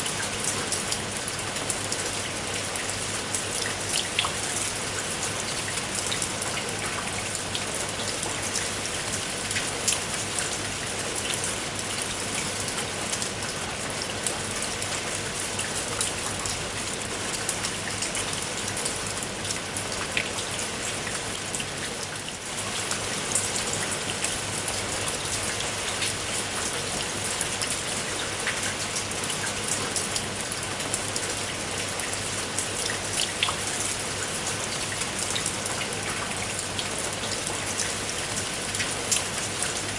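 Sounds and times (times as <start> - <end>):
raindrops clicking on a surface: 0.0 - 39.9.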